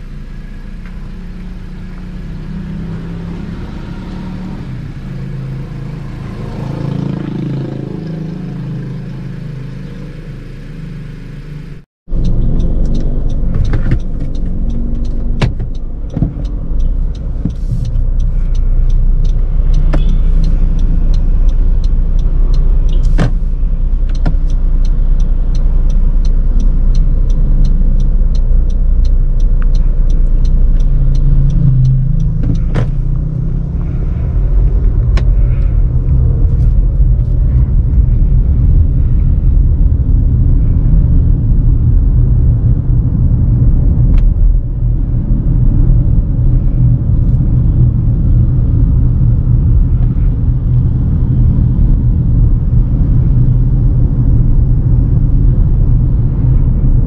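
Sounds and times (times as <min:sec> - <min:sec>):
engine and tyre rumble: 0:00.0 - 0:57.0.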